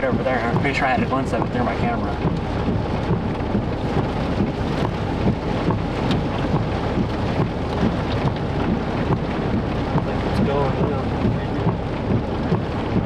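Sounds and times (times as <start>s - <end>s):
heavy rain: 0.0s - 13.0s
sharp raindrop hits: 0.0s - 13.0s
wind: 0.0s - 13.0s.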